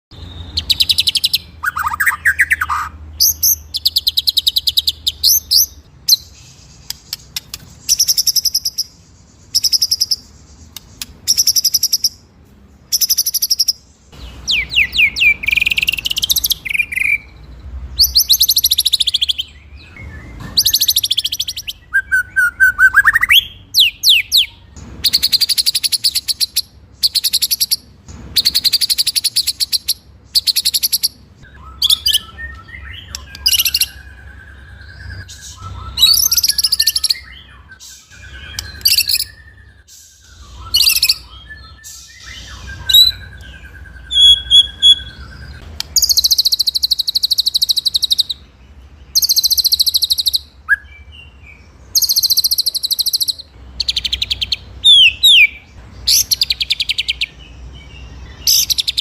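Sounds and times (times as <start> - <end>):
songbird singing trills and whistles: 0.1 - 59.0.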